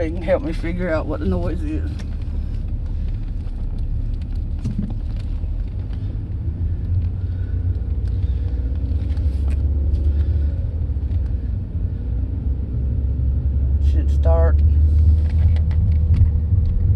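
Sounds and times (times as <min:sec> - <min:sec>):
car engine and tyres rumbling: 0:00.0 - 0:16.9.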